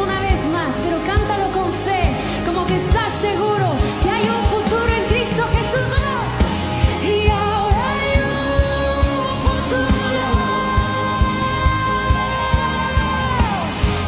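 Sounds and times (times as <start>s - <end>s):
person singing: 0.0s - 14.0s
band with steady drum beat: 1.1s - 14.0s.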